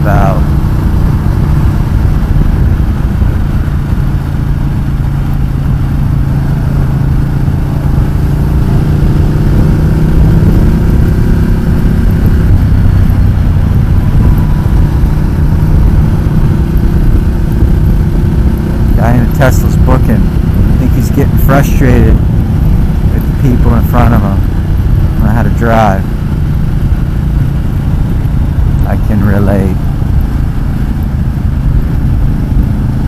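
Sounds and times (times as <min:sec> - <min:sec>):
motorcycle engine running: 0:00.0 - 0:33.0
wind and road noise: 0:00.0 - 0:33.0.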